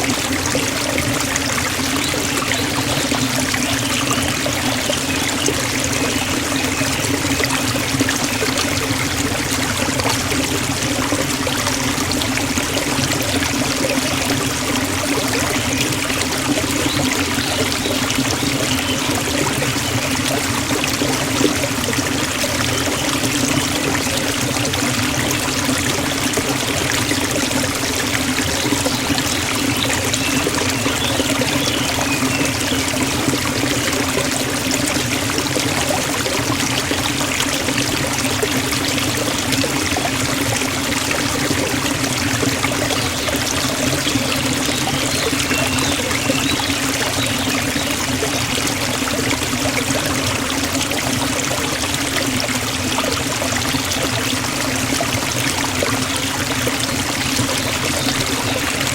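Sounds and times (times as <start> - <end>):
waterfall rushing and splashing: 0.0 - 58.9.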